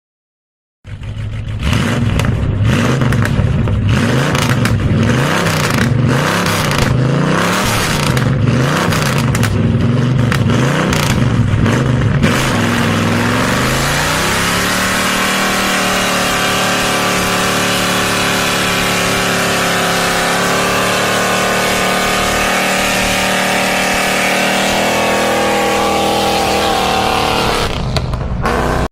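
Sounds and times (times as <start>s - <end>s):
car engine revving: 0.9s - 28.9s.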